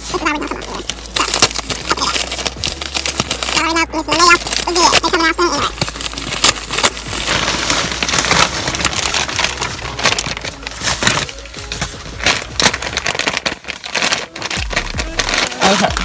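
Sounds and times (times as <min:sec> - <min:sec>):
packaging rustling and crackling: 0:00.0 - 0:16.0.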